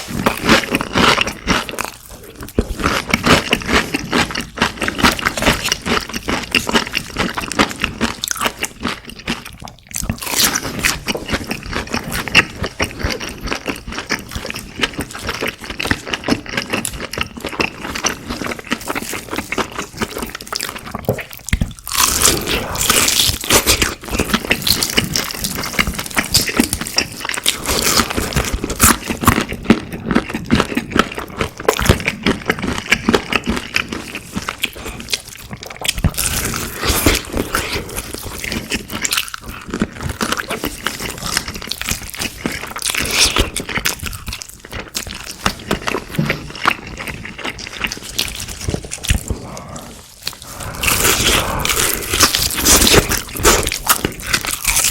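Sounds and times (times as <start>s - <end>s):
chewing crispy fried food: 0.0s - 54.9s.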